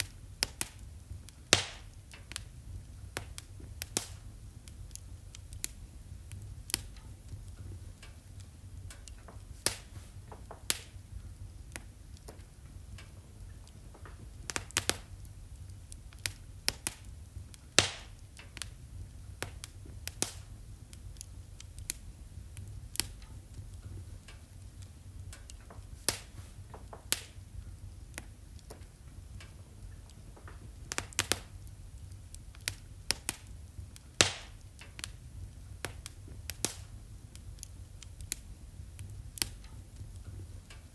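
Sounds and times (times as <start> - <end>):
low steady rumble: 0.0 - 40.9
sharp pops of fire: 0.0 - 40.9
wood fire crackling: 0.0 - 40.9.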